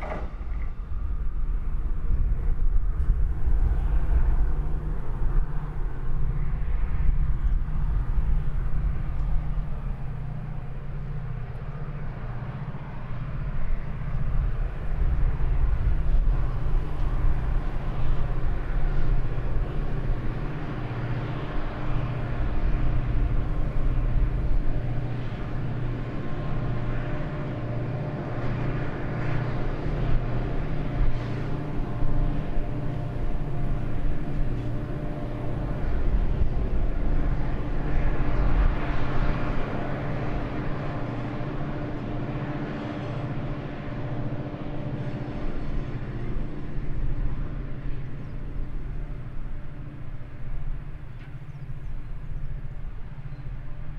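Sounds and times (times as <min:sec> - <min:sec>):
diesel locomotive engine rumble: 0:00.0 - 0:53.9.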